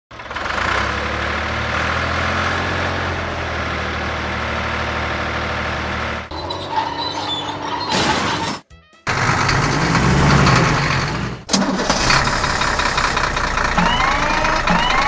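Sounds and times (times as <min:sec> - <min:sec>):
bulldozer engine rumbling: 0:00.1 - 0:15.0.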